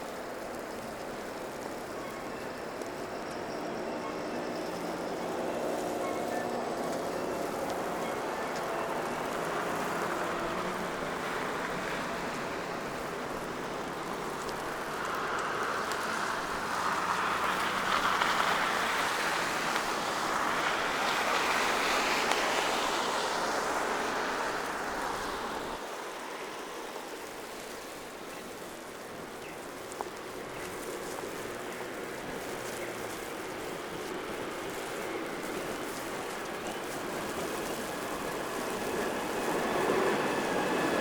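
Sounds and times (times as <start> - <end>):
tyre hiss on wet street: 0.0 - 41.0.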